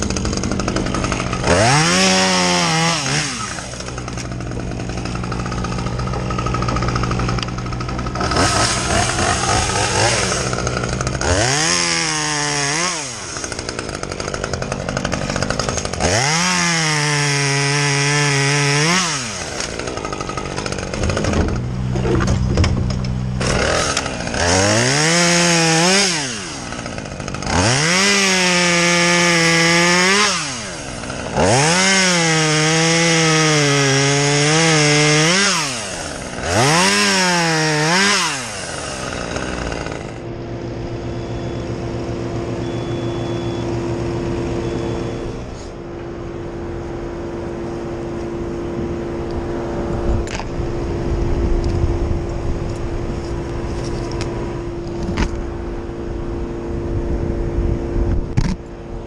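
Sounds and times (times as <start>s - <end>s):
chainsaw revving and cutting wood: 0.0s - 50.6s.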